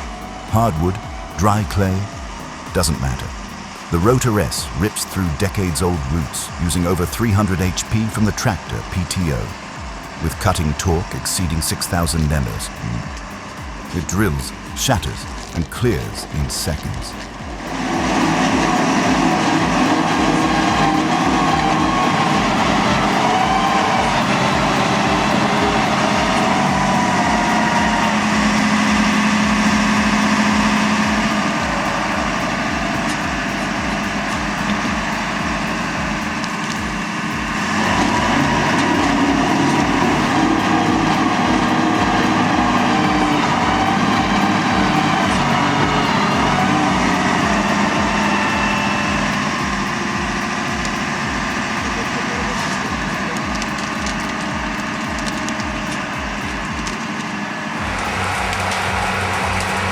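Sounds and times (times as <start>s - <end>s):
heavy machinery engine running: 0.0s - 59.9s.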